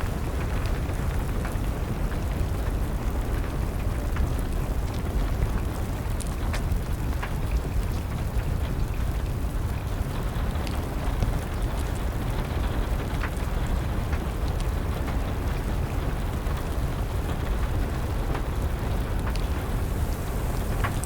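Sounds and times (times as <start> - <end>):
steady rush of rain: 0.0 - 21.0
wood fire crackling and popping: 0.0 - 21.0.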